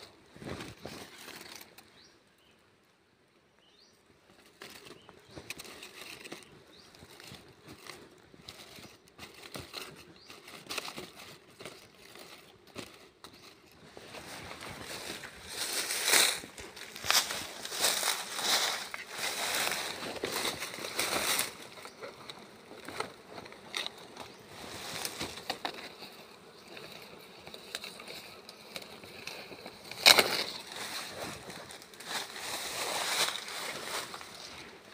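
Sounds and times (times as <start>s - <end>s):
dry leaves rustling and crackling: 0.4s - 1.8s, 4.4s - 34.9s.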